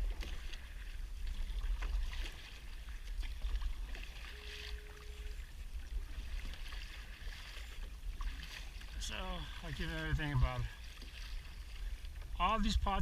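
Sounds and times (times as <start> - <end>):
water splashing around kayak: 0.0 - 13.0.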